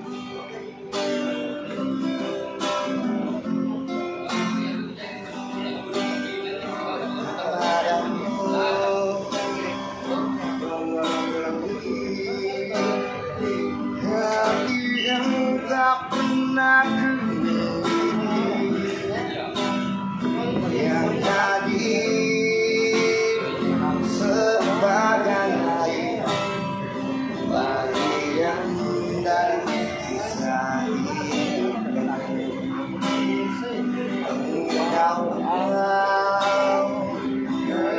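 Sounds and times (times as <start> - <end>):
man singing: 0.0 - 37.9
strummed acoustic guitar: 0.0 - 37.9.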